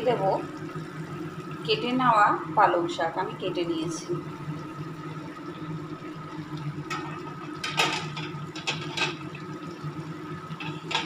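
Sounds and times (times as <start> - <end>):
steady low hum: 0.0 - 11.0
vegetables simmering and bubbling: 0.0 - 11.0.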